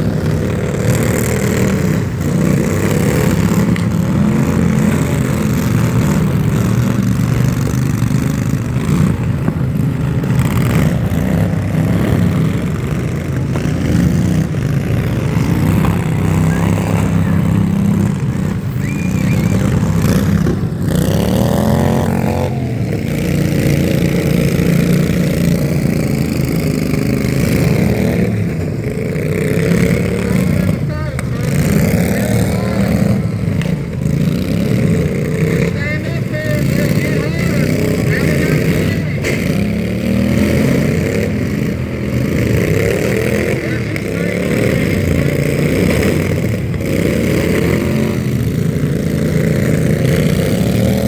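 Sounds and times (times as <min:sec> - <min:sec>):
vehicle engine running loudly: 0:00.0 - 0:51.0.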